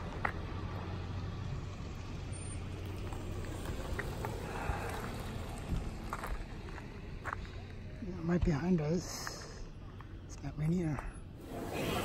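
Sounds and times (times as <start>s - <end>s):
low rumble of car traffic: 0.0s - 12.0s.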